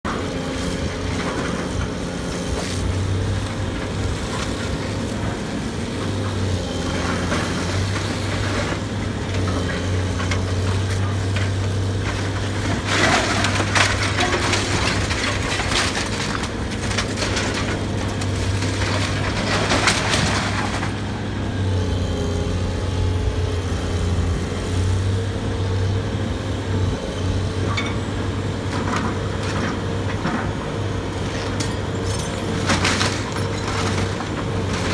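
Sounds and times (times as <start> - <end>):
excavator diesel engine running: 0.1 - 34.9
wood splintering and crunching: 0.2 - 24.0, 28.4 - 34.9.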